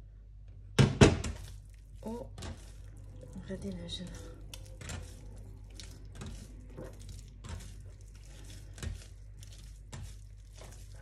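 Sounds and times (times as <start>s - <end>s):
hands kneading dough: 0.8s - 11.0s.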